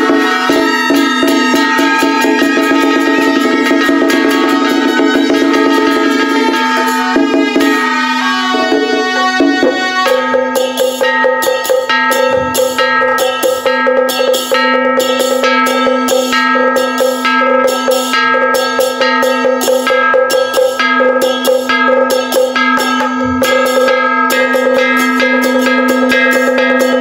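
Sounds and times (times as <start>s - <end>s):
drum and wood block strokes: 0.0s - 27.0s.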